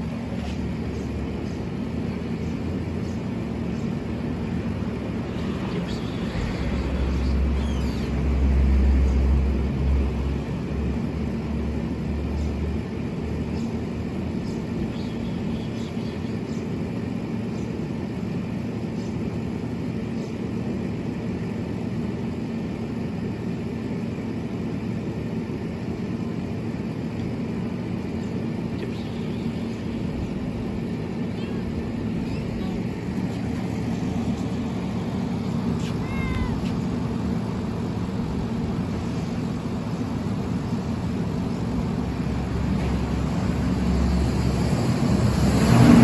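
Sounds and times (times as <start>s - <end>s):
city background hum: 0.0s - 46.0s.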